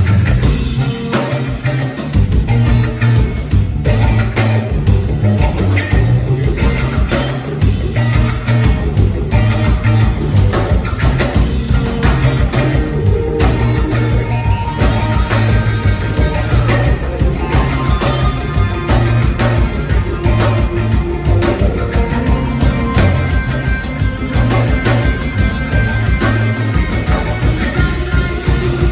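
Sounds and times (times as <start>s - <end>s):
electric guitar: 0.0s - 28.9s
live rock band playing: 0.0s - 28.9s
walking bass line: 0.0s - 28.9s.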